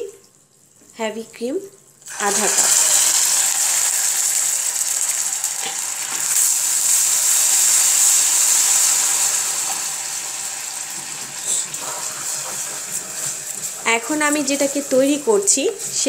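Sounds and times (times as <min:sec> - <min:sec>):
caramel sauce sizzling and bubbling: 0:01.7 - 0:16.0.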